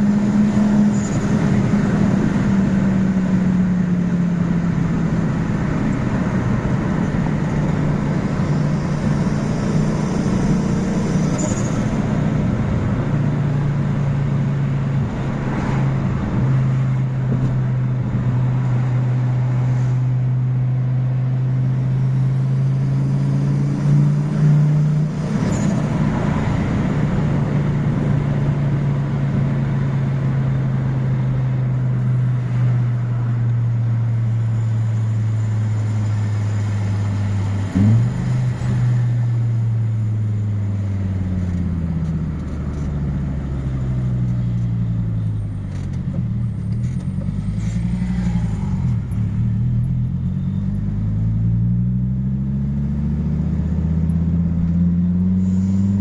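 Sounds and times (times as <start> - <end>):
car engine running: 0.0 - 51.8.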